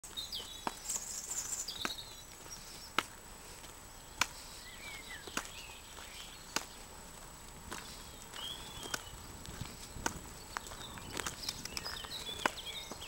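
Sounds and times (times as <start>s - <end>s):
birds chirping: 0.0s - 13.0s
footsteps on gravel: 0.0s - 13.0s.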